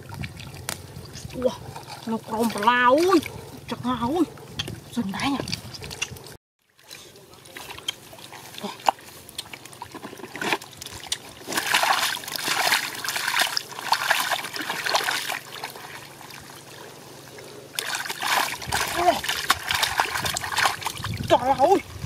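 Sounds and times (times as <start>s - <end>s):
splashing in muddy water: 0.0s - 22.0s.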